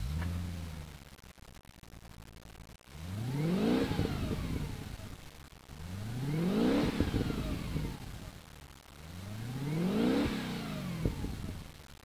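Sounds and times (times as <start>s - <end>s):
car engine revving: 0.0s - 1.2s, 2.9s - 11.9s.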